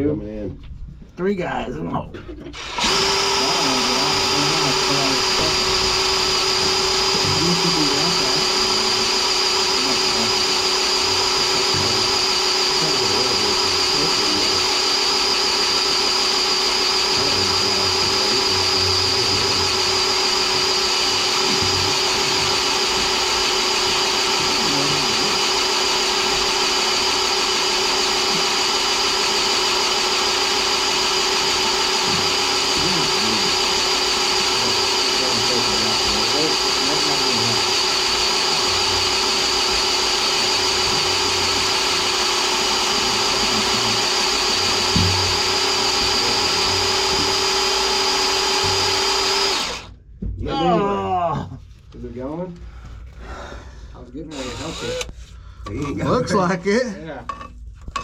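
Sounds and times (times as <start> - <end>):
cordless drill boring: 2.5 - 49.9, 54.2 - 56.2.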